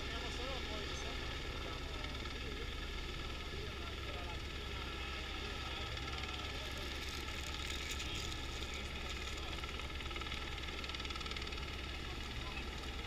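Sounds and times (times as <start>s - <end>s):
engine drone: 0.0s - 13.0s
faint voices: 0.0s - 13.0s.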